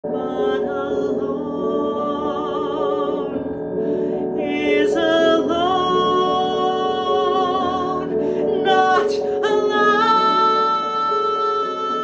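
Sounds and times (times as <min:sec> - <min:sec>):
woman singing with vibrato: 0:00.1 - 0:03.4, 0:04.2 - 0:12.0.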